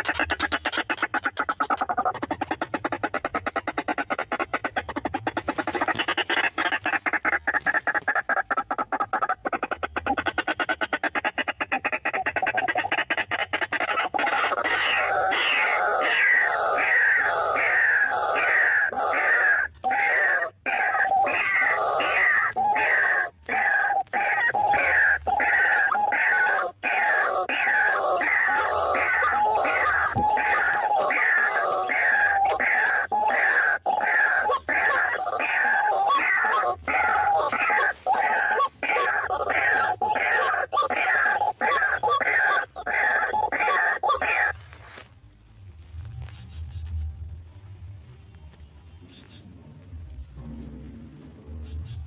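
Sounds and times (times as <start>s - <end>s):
bird harsh croaking calls: 0.0s - 45.1s, 48.9s - 52.0s.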